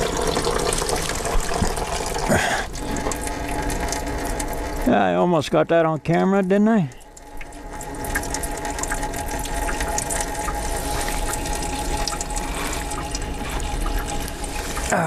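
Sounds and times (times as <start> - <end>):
liquid pouring into bucket: 0.0 - 15.0.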